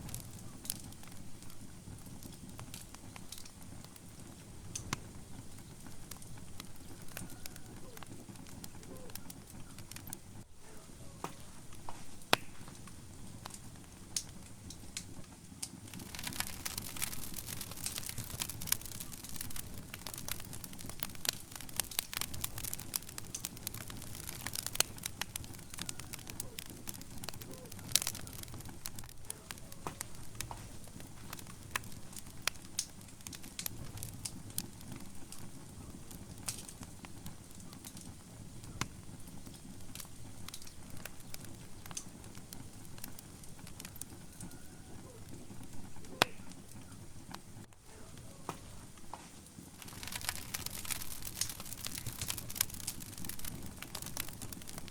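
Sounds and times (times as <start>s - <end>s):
burning logs crackling and popping: 0.0s - 54.9s
fire flames rumbling: 0.0s - 54.9s.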